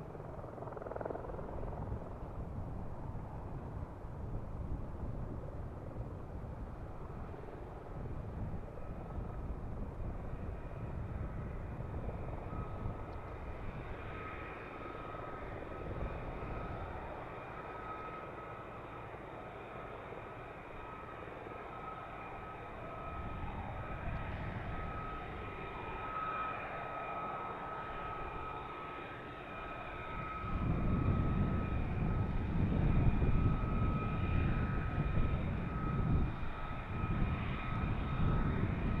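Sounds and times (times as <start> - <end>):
jet engine whine and rumble: 0.0 - 39.0.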